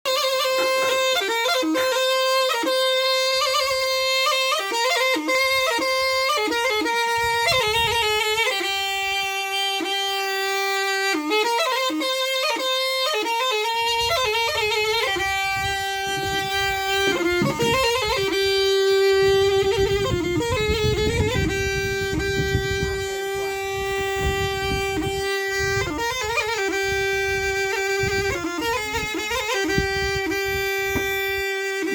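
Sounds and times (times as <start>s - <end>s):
shrill shawm playing folk melody: 0.0s - 31.9s.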